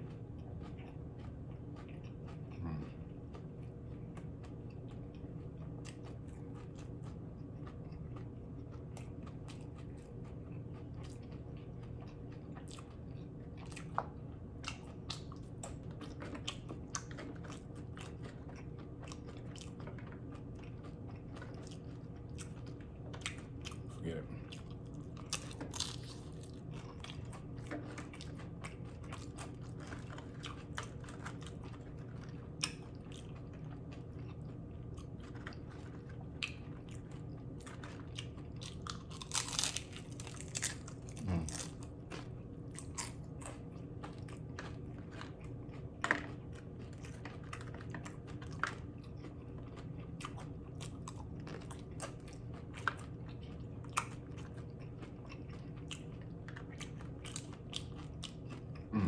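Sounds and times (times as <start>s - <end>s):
chewing and crunching chips: 0.0s - 59.0s
steady low hum: 0.0s - 59.0s.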